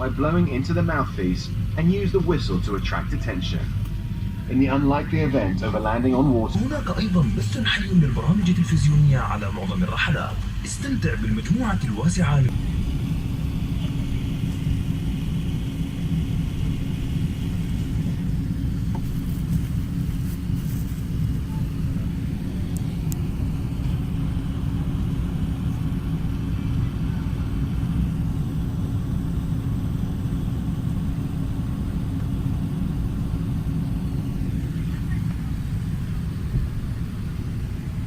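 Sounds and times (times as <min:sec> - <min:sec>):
airplane cabin rumble: 0:00.0 - 0:38.0.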